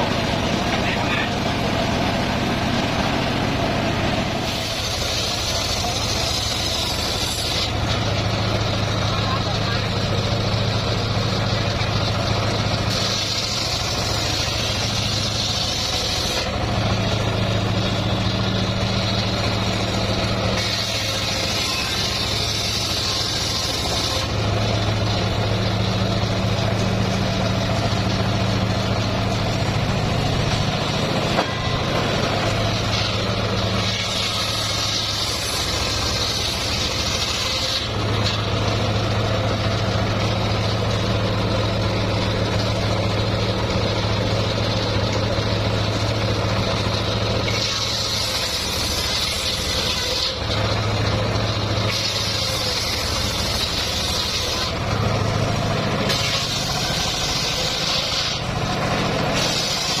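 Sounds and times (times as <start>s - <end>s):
saw blade cutting log: 0.0s - 60.0s
sawmill engine running: 0.0s - 60.0s.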